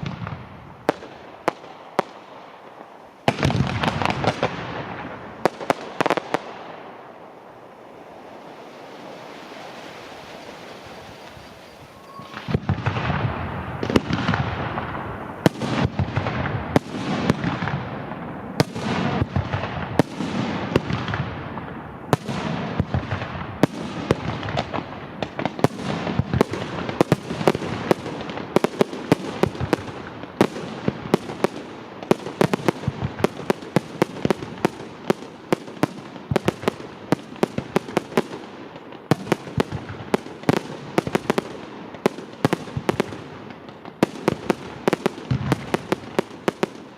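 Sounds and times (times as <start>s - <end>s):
fireworks banging and cracking: 0.0s - 7.1s, 11.2s - 46.9s.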